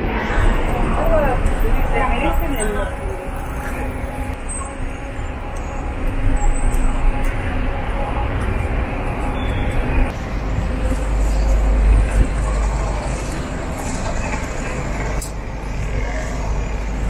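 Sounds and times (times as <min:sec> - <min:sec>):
cars and buses passing: 0:00.0 - 0:17.0.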